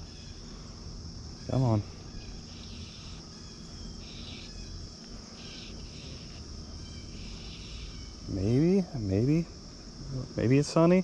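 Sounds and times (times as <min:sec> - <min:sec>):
crickets chirring: 0:00.0 - 0:11.0
rasping insect call: 0:00.0 - 0:11.0.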